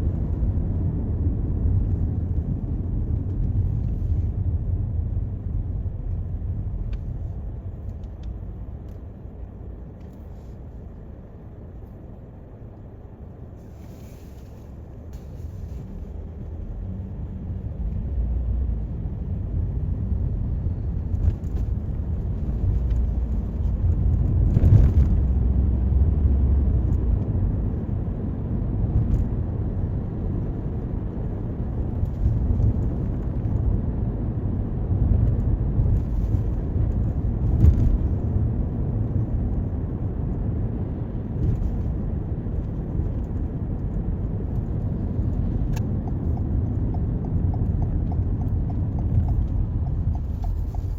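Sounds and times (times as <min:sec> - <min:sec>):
car tyres and engine rumble: 0:00.0 - 0:50.9.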